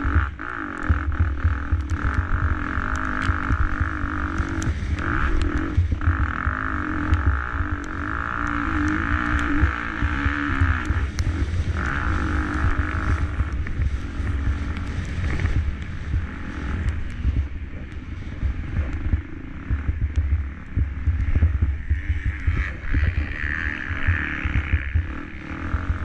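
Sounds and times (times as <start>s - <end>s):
heavy low rumble: 0.0s - 26.0s
motocross bike engine revving: 0.0s - 26.0s.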